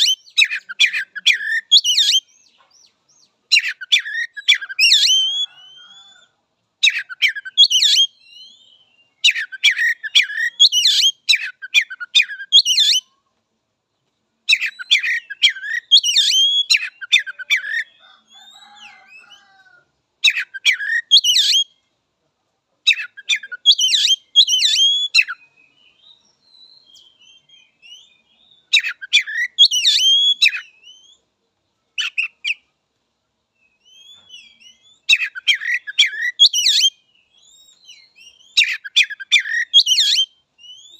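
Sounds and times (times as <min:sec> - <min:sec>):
bird singing whistled notes: 0:00.0 - 0:06.2, 0:06.8 - 0:13.1, 0:14.5 - 0:19.4, 0:20.3 - 0:21.8, 0:22.9 - 0:31.2, 0:33.5 - 0:40.9
soft bird twittering: 0:00.0 - 0:13.2, 0:14.5 - 0:19.7, 0:22.9 - 0:31.2, 0:33.6 - 0:40.9.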